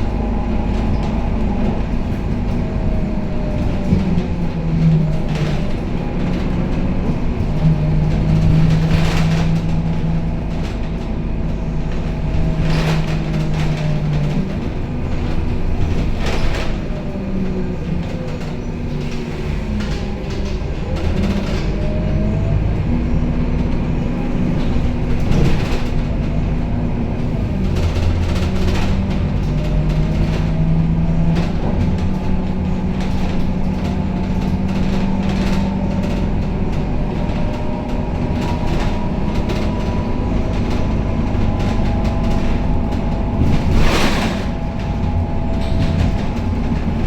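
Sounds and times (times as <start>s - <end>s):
bus body rattles: 0.0s - 47.0s
bus diesel engine under load: 0.0s - 47.0s.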